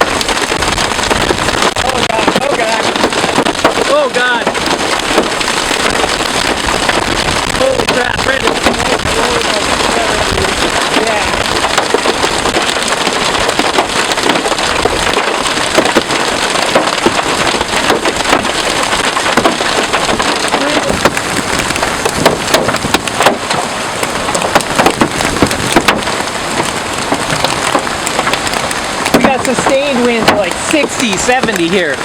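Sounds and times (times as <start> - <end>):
hail and rain pelting a car roof: 0.0 - 32.0.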